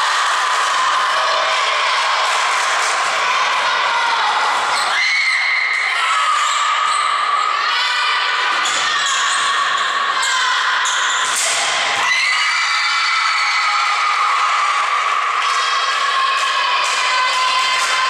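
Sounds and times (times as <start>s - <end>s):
people shouting and cheering: 0.0s - 18.0s.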